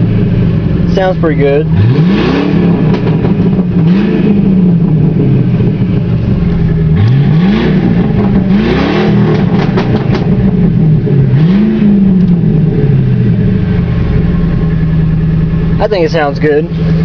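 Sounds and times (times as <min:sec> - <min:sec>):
car engine revving: 0:00.0 - 0:17.0
exhaust crackles: 0:00.0 - 0:17.0.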